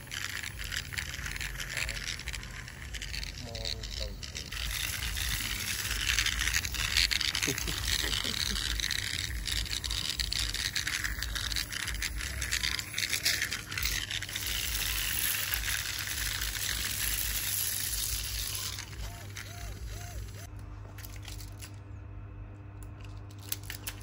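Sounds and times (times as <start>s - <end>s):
toy motor and gears whirring: 0.0s - 21.8s, 22.8s - 24.0s.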